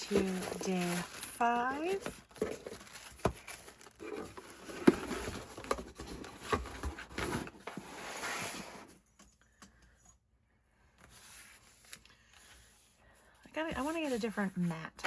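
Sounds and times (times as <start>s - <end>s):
rustling on a tabletop: 0.0s - 9.0s, 11.0s - 15.0s.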